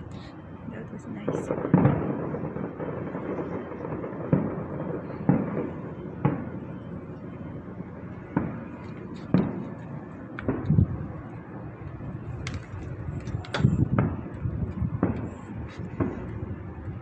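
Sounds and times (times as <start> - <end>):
steady background noise: 0.0 - 17.0
distant fireworks booms: 0.8 - 17.0.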